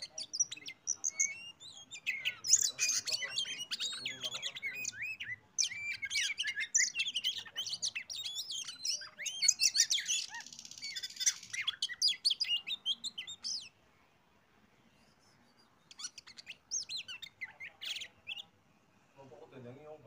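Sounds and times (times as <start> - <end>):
bird song whistled notes: 0.0 - 13.8, 14.8 - 18.6.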